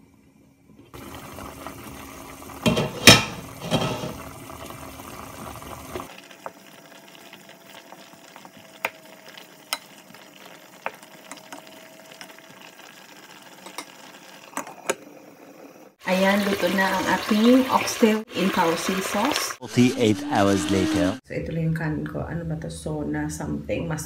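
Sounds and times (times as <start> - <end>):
stew bubbling in a pot: 0.9 - 20.6.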